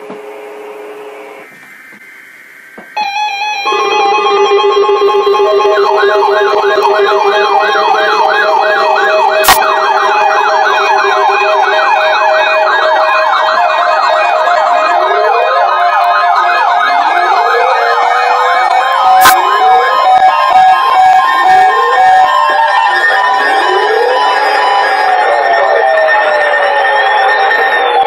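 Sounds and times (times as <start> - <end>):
warbling alarm siren tones: 1.0 - 28.0
steady beeps: 2.9 - 15.4, 16.7 - 28.0.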